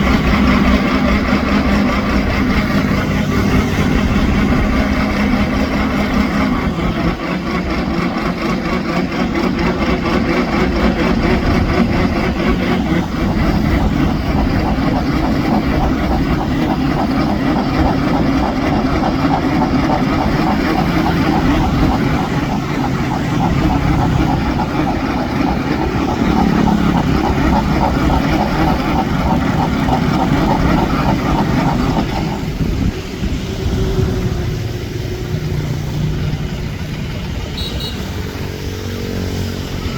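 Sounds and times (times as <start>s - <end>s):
boat engine running under load: 0.0s - 39.9s.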